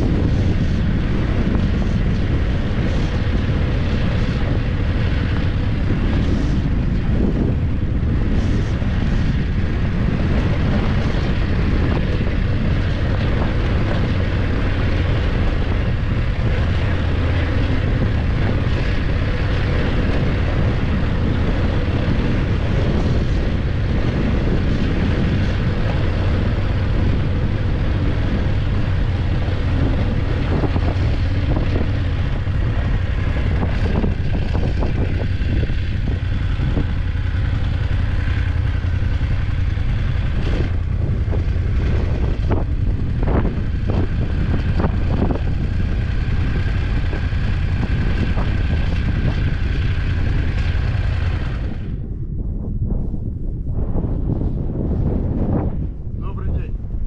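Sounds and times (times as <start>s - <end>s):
motorcycle engine running: 0.0s - 56.2s
wind rush on microphone: 0.0s - 57.0s.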